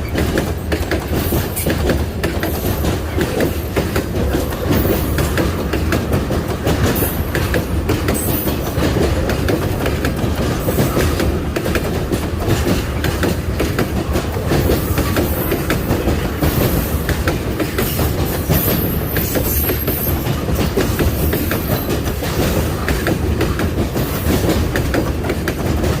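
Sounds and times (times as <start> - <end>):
train wagons rumbling on track: 0.0 - 26.0
wheels clicking over rail joints: 0.0 - 26.0.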